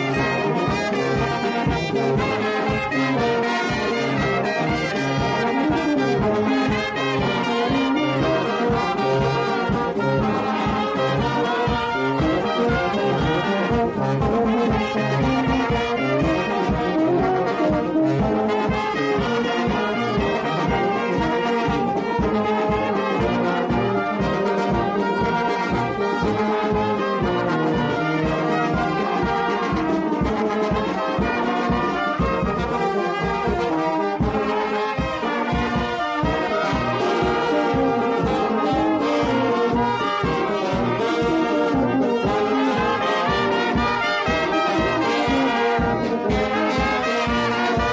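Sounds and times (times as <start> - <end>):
steady beat: 0.0 - 47.9
trumpets and trombones: 0.0 - 47.9.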